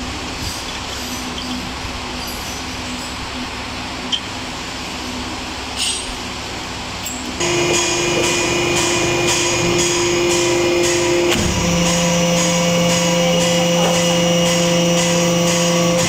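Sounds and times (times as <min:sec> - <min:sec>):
hydraulic press humming: 0:00.0 - 0:16.0.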